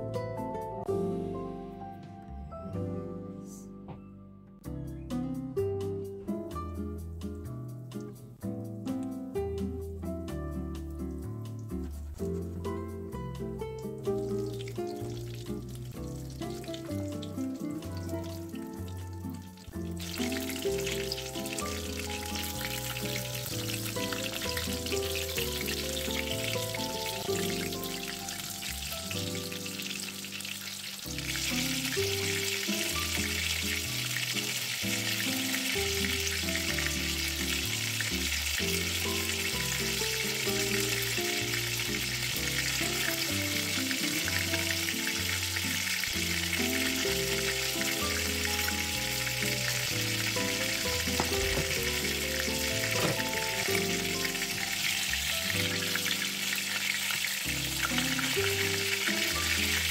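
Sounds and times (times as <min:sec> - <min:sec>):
background music: 0:00.0 - 0:59.9
cutlets sizzling in hot oil: 0:11.0 - 0:59.9.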